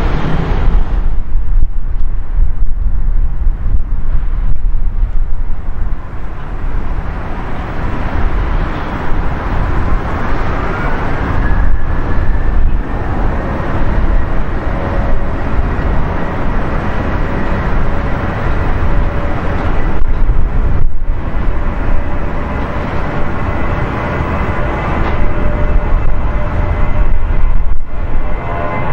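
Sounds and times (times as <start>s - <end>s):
jet engines running: 0.0s - 28.9s
rising engine whine: 0.0s - 28.9s.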